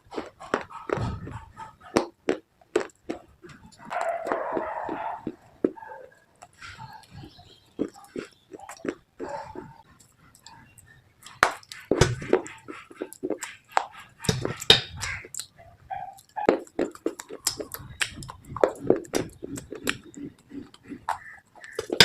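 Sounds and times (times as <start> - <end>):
crunchy biting and chewing: 0.0 - 22.0.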